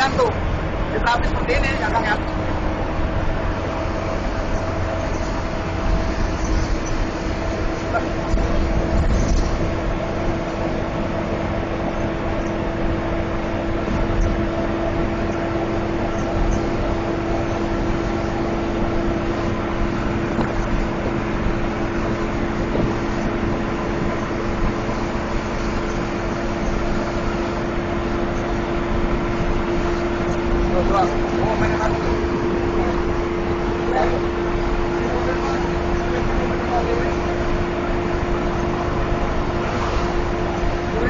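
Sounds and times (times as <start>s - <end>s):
bus engine drone: 0.0s - 41.0s
drivetrain whine: 0.0s - 41.0s
road rumble: 0.0s - 41.0s.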